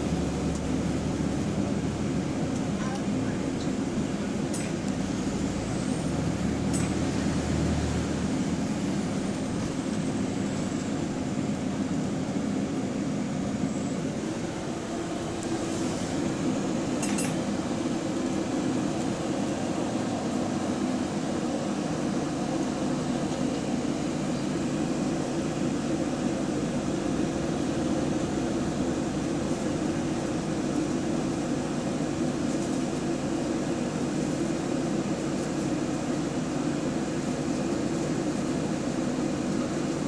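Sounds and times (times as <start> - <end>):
bus engine running: 0.0 - 40.0.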